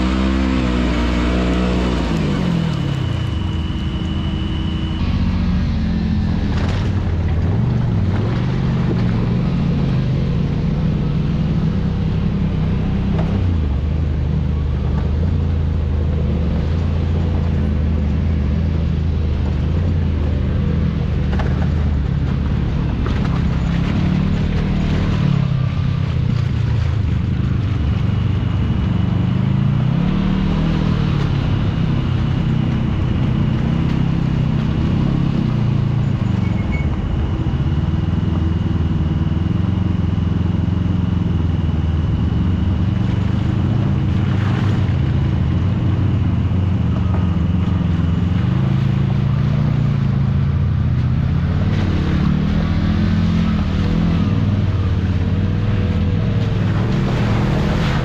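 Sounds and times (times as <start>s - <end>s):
faint high whine: 0.0s - 58.0s
utility vehicle engine revving: 0.0s - 58.0s.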